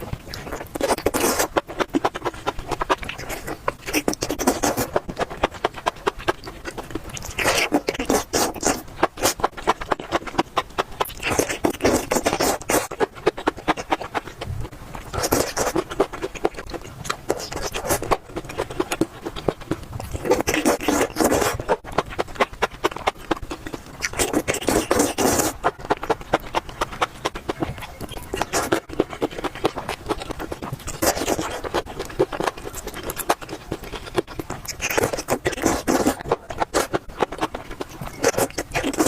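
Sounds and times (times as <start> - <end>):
biting or slurping: 0.0 - 39.0
wet chewing and mouth clicks: 0.0 - 39.0.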